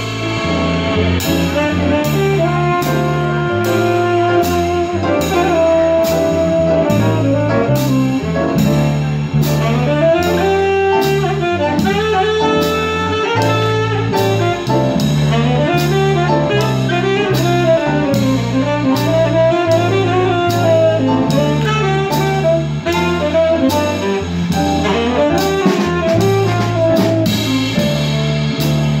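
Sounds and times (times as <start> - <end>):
jazz combo playing: 0.0 - 29.0
saxophone melody: 0.0 - 29.0.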